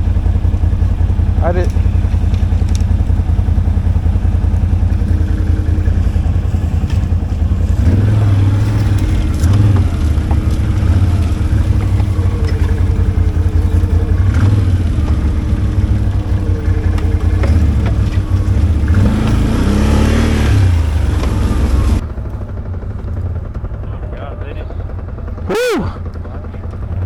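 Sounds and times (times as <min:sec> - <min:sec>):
atv engine rumbling: 0:00.0 - 0:27.0.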